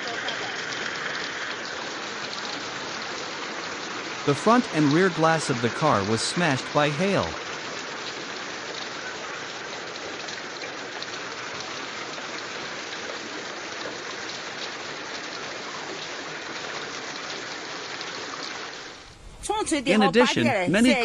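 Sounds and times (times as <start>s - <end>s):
steady rain hiss: 0.0s - 19.3s.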